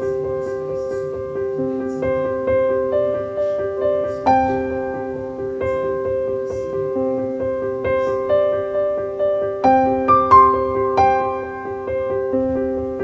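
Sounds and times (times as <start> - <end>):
gentle keyboard tune: 0.0 - 13.0.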